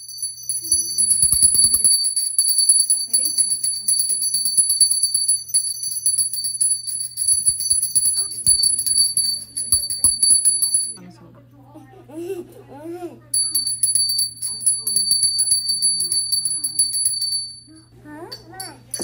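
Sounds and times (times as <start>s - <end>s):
small brass hand bell ringing: 0.0s - 11.0s, 13.3s - 19.0s.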